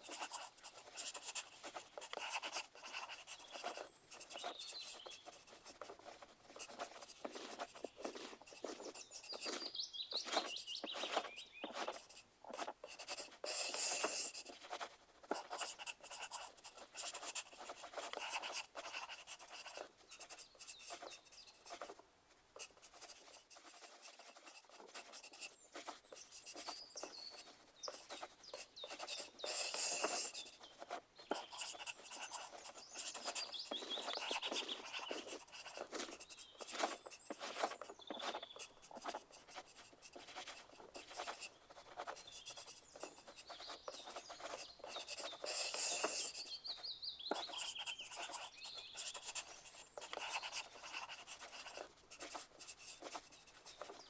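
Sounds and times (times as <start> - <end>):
pencil scratching on paper: 0.0 - 22.0, 22.6 - 54.0.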